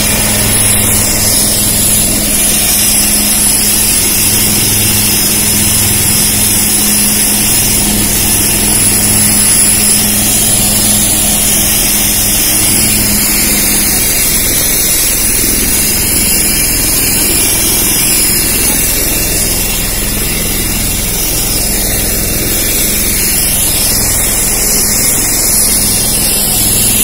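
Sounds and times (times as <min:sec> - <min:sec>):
helicopter turbine whine: 0:00.0 - 0:27.0
low rotor and engine hum: 0:00.0 - 0:27.0.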